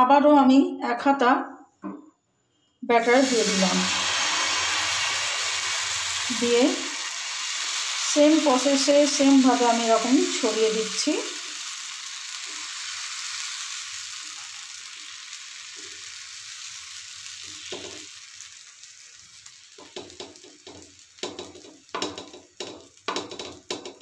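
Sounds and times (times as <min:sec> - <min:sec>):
batter sizzling on a hot pan: 0:03.0 - 0:24.0.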